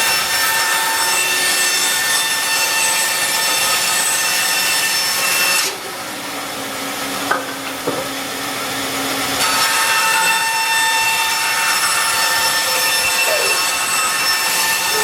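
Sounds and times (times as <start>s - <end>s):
band saw cutting: 0.0s - 15.0s.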